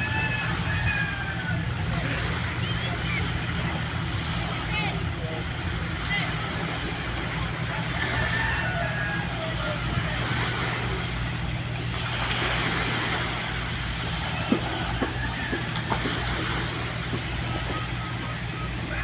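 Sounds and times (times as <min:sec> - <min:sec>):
faint voices: 0:00.0 - 0:19.0
ship engine droning: 0:00.0 - 0:19.0.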